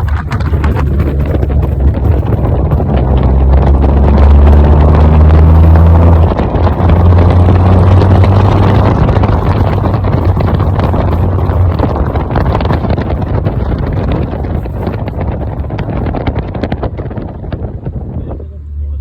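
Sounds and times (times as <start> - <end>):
car engine and exhaust droning: 0.0 - 19.0
wind on microphone: 0.0 - 19.0.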